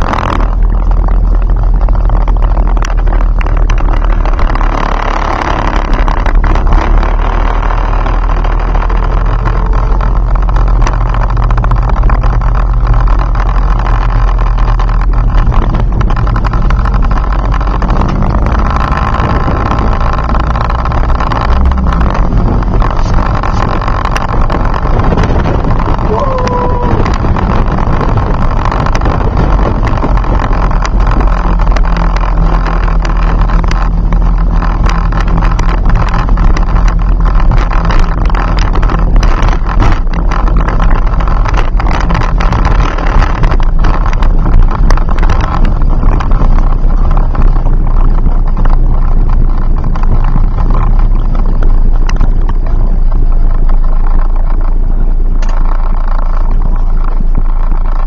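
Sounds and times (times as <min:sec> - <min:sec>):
car engine droning: 0:00.0 - 0:58.0
road and wind noise: 0:00.0 - 0:58.0.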